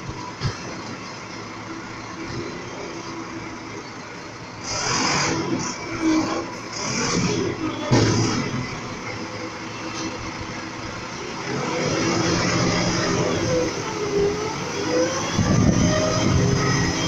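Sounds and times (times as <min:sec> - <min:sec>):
garbage truck diesel engine revving: 0:00.0 - 0:17.0.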